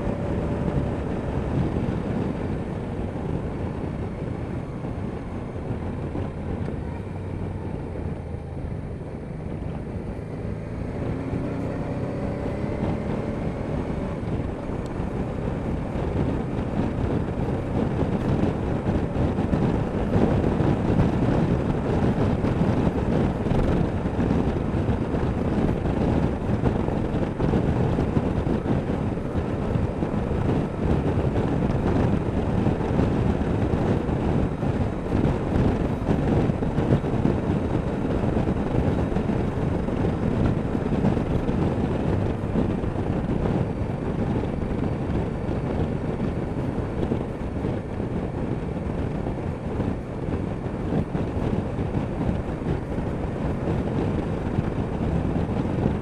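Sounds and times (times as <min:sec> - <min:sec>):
motorcycle engine running: 0:00.0 - 0:56.0
road noise: 0:00.0 - 0:56.0
wind rush on microphone: 0:00.0 - 0:56.0.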